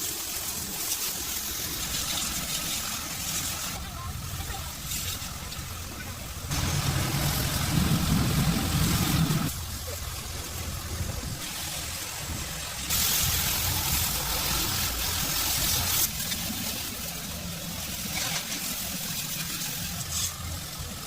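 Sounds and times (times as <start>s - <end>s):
loud hiss: 0.0s - 21.0s
engine low rumble: 3.8s - 21.0s.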